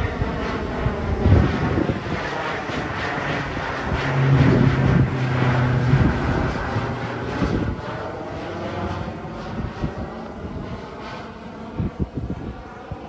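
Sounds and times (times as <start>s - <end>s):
propeller airplane engine drone: 0.0s - 13.0s.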